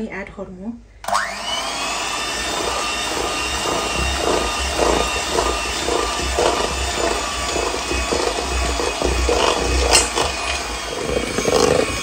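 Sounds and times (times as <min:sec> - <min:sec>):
electric hand mixer whining: 0:01.0 - 0:12.0
beaters scraping a metal pot: 0:02.3 - 0:12.0.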